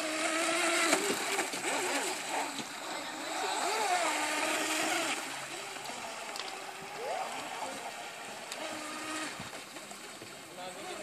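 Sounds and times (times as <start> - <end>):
electric motor whining: 0.0 - 9.6.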